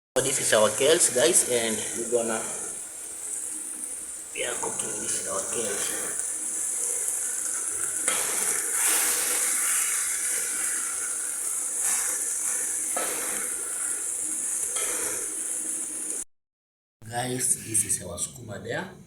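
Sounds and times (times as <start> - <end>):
greens sizzling in a pot: 0.2 - 16.2.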